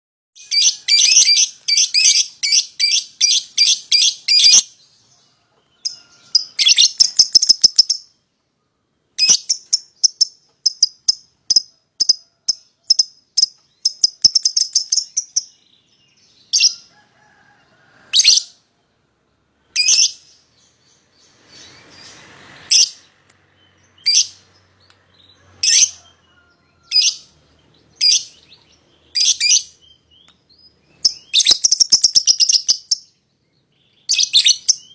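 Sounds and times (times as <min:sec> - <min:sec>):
lovebirds chirping: 0:00.4 - 0:34.9.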